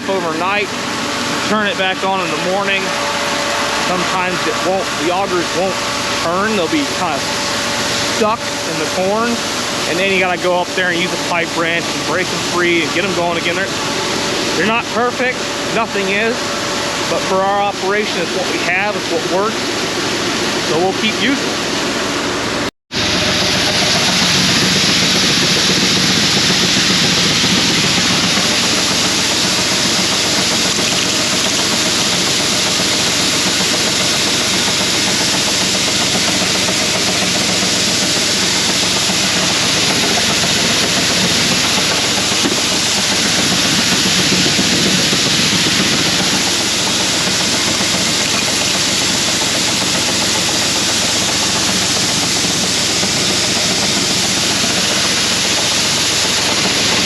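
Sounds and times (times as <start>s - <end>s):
engine running with low hum: 0.0s - 57.0s.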